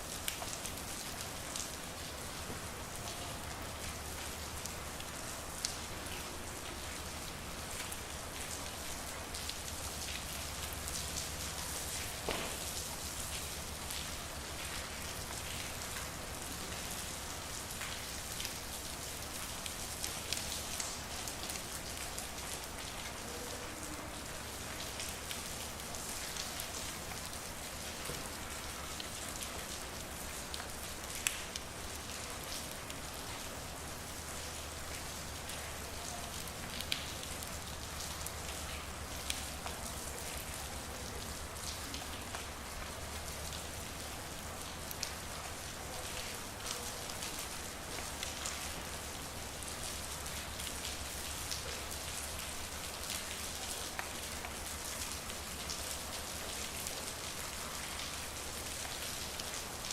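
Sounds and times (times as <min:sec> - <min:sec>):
rain falling on a street: 0:00.0 - 0:59.9.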